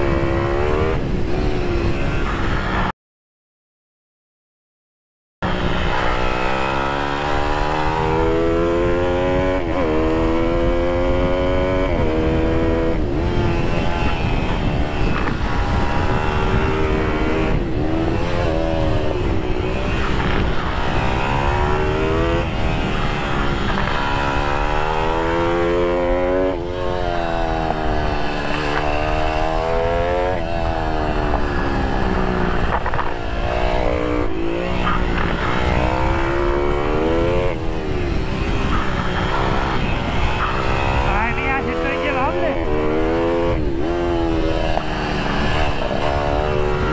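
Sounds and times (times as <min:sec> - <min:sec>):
motorbike engine revving: 0:00.0 - 0:02.9, 0:05.4 - 0:46.9
wind on microphone: 0:00.0 - 0:02.9, 0:05.4 - 0:46.9.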